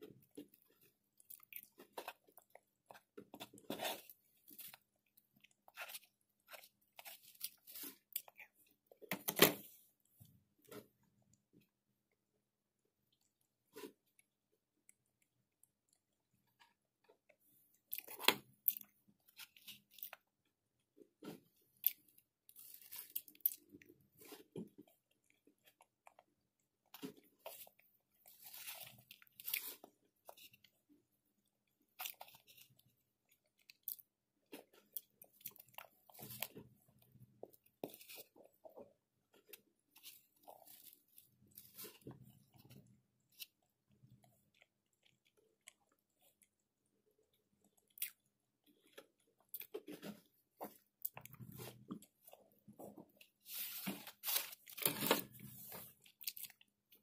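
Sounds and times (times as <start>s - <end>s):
chewing and crunching: 0.0s - 11.8s, 12.8s - 57.0s.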